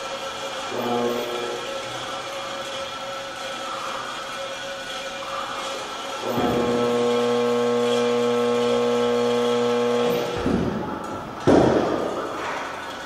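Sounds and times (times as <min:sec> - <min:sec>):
electric buzzing hum: 0:00.0 - 0:04.1, 0:05.1 - 0:12.4.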